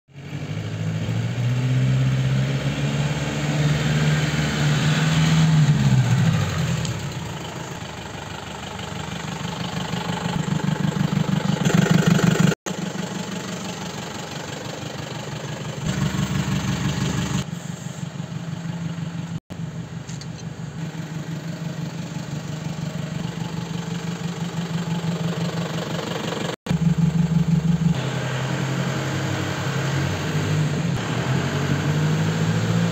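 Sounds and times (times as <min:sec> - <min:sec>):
diesel truck engine running: 0:02.8 - 0:32.9.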